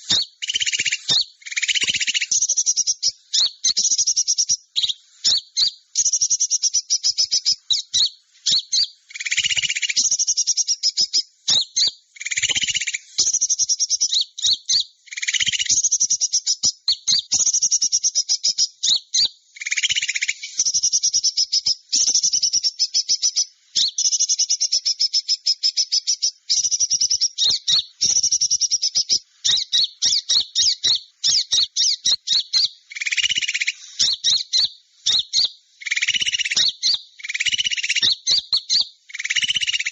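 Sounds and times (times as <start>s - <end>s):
high-pitched bird chirping: 0.0s - 39.9s
lower louder bird call: 0.0s - 39.9s.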